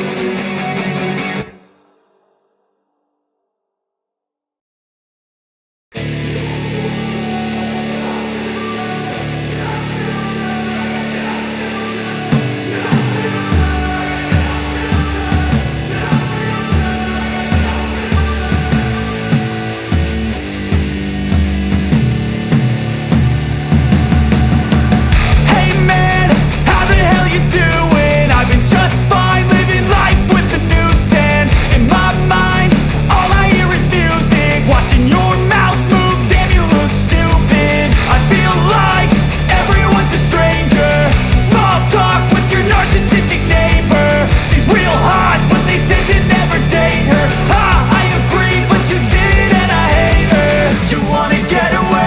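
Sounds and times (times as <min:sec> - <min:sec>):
drums: 0:00.0 - 0:02.2, 0:05.9 - 0:52.0
guitar rock music: 0:00.0 - 0:02.4, 0:06.0 - 0:52.0.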